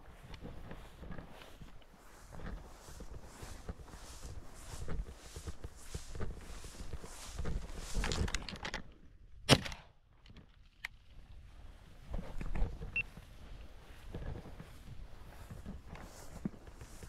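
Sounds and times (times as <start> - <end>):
footsteps brushing through vegetation: 0.0 - 8.6, 11.2 - 17.0.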